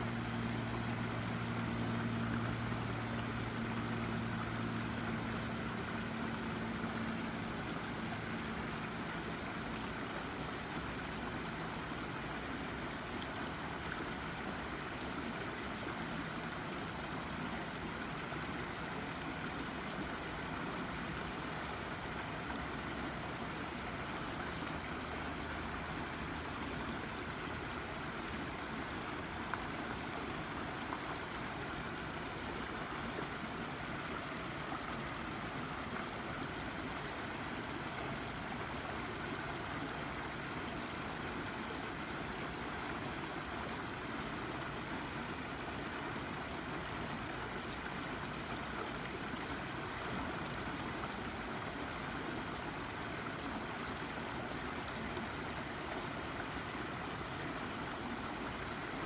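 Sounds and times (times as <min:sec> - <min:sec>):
brook babbling over rocks: 0:00.0 - 0:59.0.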